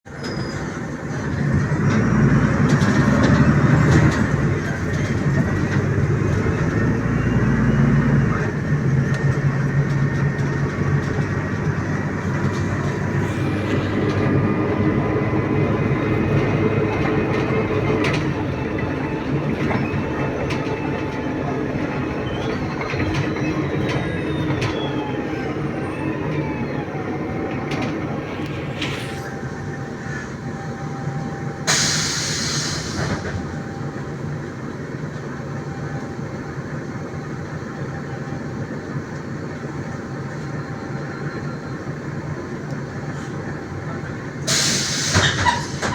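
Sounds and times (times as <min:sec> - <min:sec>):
bus drivetrain humming and whining: 0:00.0 - 0:45.9.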